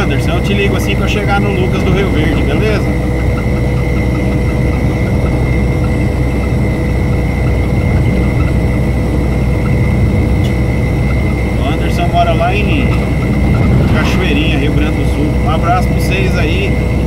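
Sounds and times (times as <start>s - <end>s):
road noise: 0.0s - 17.0s
thin steady whine: 0.0s - 17.0s
truck engine drone: 0.0s - 17.0s.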